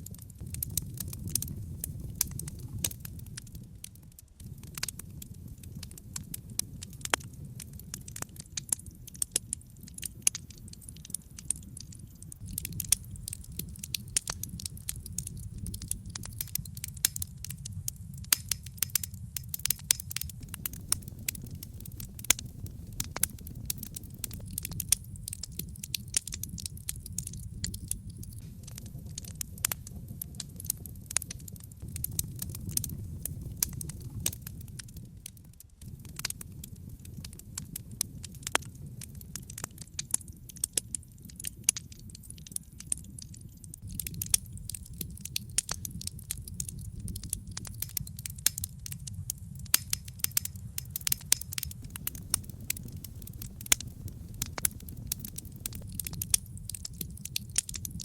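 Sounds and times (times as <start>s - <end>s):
fire crackling and popping: 0.0s - 58.0s
low rumble of flame: 0.0s - 58.0s.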